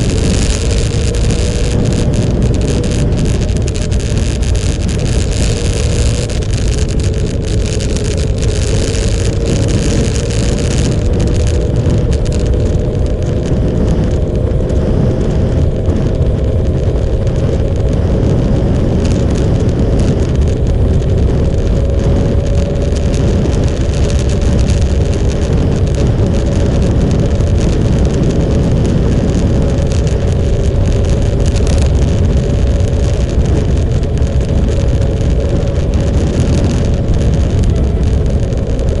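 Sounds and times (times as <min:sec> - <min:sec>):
motorcycle engine cruising: 0:00.0 - 0:39.0
wind and road noise: 0:00.0 - 0:39.0.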